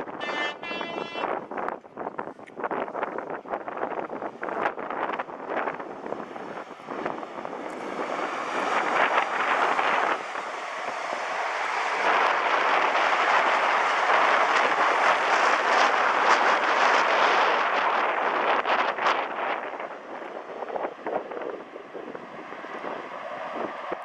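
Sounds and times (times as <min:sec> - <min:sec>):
train passing at speed: 0:03.2 - 0:24.0.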